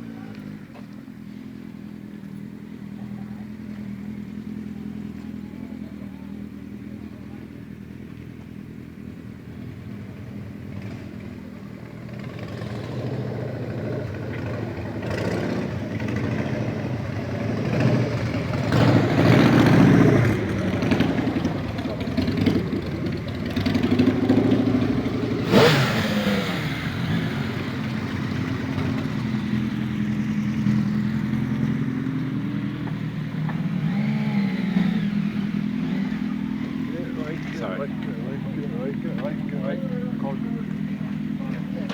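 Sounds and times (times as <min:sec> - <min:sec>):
motorcycles passing and revving: 0:00.0 - 0:41.9.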